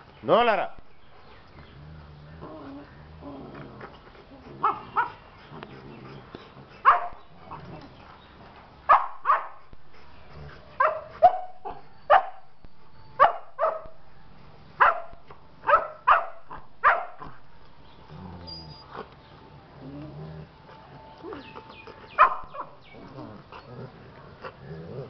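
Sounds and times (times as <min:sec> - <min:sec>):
dogs barking in play: 0:01.4 - 0:12.5, 0:13.1 - 0:19.2, 0:19.8 - 0:25.0.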